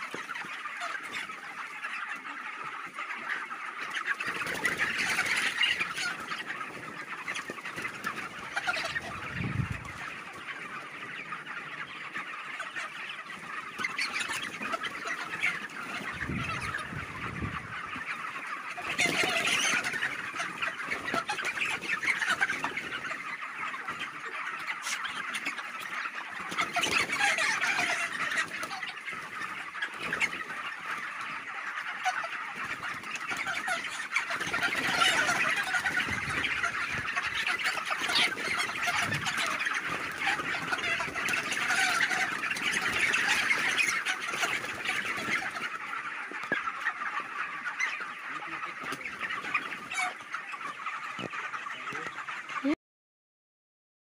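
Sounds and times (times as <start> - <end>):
flock of chickens calling: 0.0 - 52.8.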